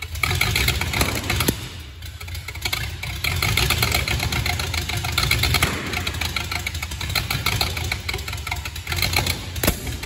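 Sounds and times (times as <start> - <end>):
car engine running: 0.0 - 10.0
engine ticking clatter: 0.0 - 10.0.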